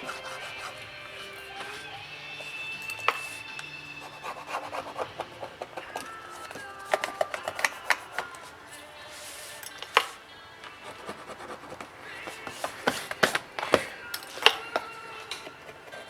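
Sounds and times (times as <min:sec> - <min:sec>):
hands rubbing and scraping: 0:00.0 - 0:16.0.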